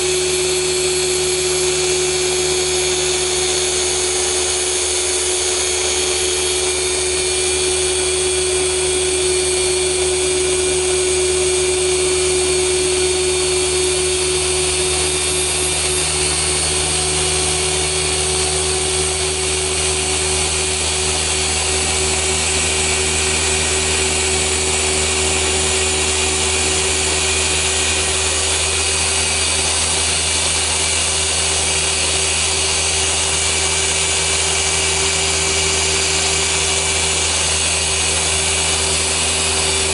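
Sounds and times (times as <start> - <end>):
orbital polisher motor whine: 0.0 - 39.9.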